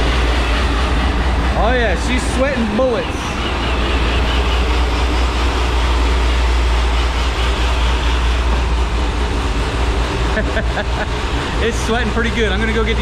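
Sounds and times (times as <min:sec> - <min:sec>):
low machine rumble: 0:00.0 - 0:13.0.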